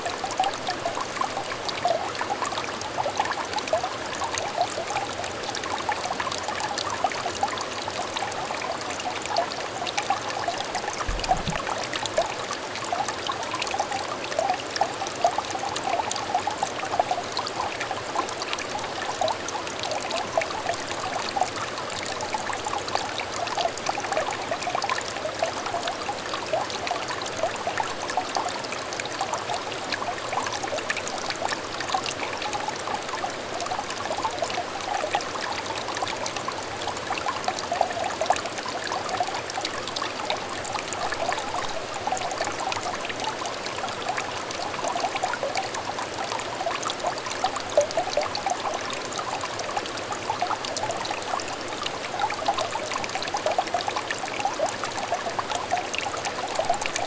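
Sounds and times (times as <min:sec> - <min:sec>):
small stream trickling: 0:00.0 - 0:57.0.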